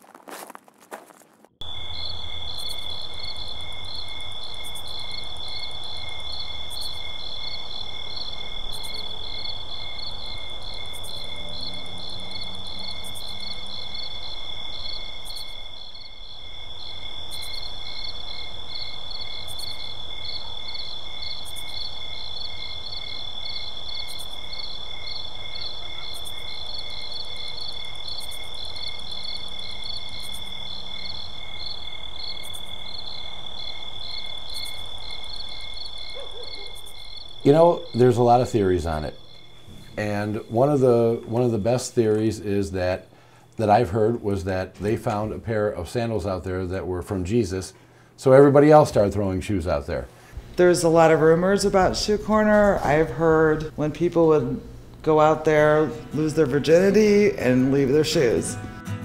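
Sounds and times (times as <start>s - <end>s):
insects trilling and chirping: 0.0s - 58.5s.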